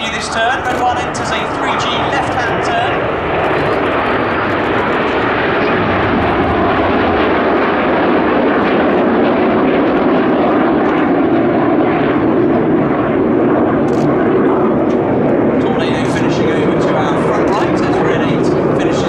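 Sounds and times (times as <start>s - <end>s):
jet aircraft rushing: 0.0s - 19.0s.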